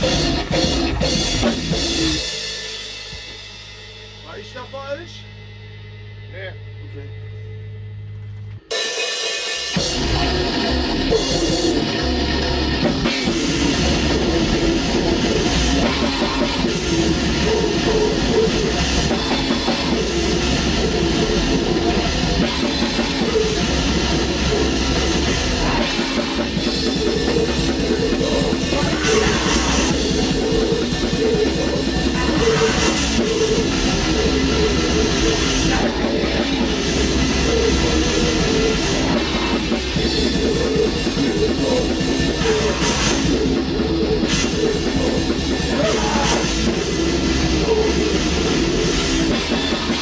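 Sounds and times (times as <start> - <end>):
black metal band playing: 0.0 - 7.4, 8.7 - 50.0.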